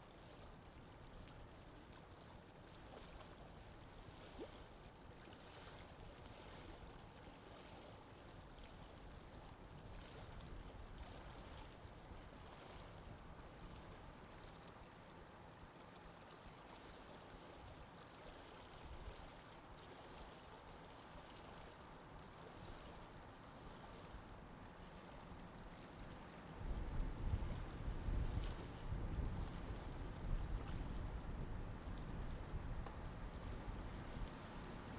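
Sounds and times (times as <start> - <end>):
gentle moving water: 0.0 - 34.9.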